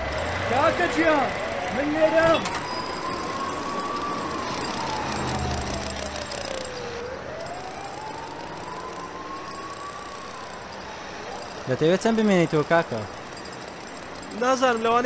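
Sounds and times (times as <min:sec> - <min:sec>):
siren wailing: 0:00.0 - 0:13.4
street noise: 0:00.0 - 0:15.0.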